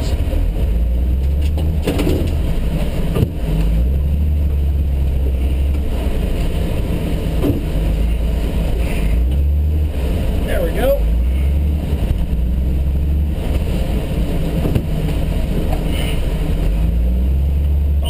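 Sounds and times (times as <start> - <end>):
engine running at low revs: 0.0 - 18.0.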